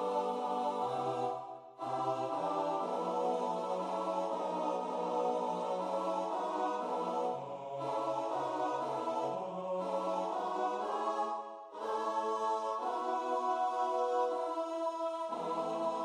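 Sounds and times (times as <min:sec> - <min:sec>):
barbershop vocal harmony: 0:00.0 - 0:16.0.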